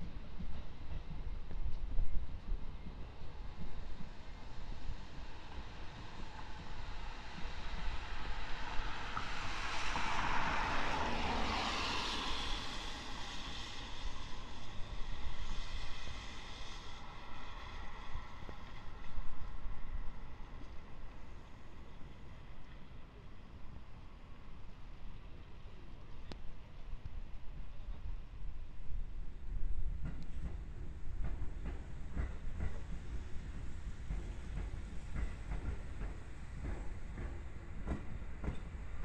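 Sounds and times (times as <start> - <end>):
distant electric train running: 0.0 - 39.0.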